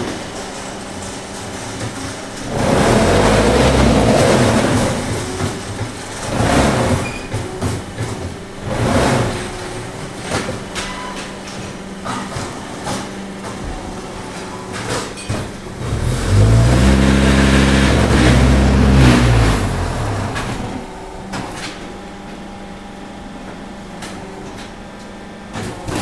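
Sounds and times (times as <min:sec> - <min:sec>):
concrete mixers churning: 0:00.0 - 0:22.1.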